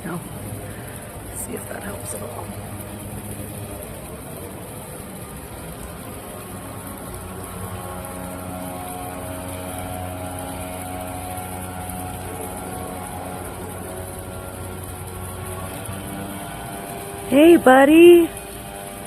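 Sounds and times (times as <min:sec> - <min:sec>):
engine mechanical hum: 0:00.0 - 0:19.0.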